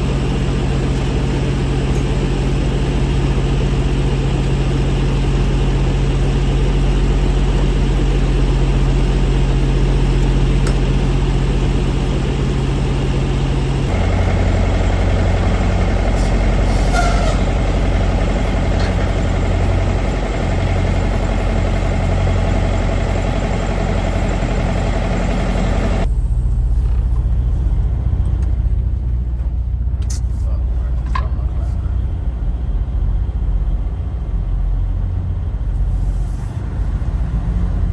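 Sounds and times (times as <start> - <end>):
truck diesel engine running: 0.0 - 37.9.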